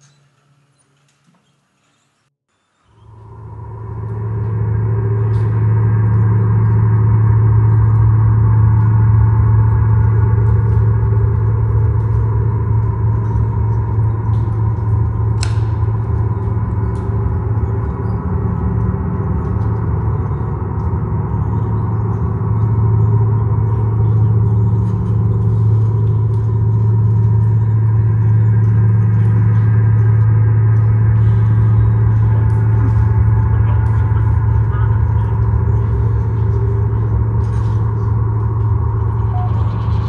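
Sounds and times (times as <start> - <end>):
low gong-like drone: 2.9 - 40.0.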